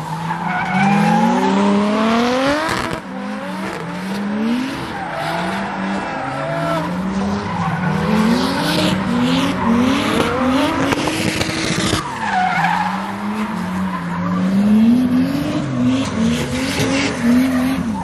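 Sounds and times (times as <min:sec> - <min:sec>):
car engine revving: 0:00.0 - 0:18.0
tires screeching: 0:00.0 - 0:18.0.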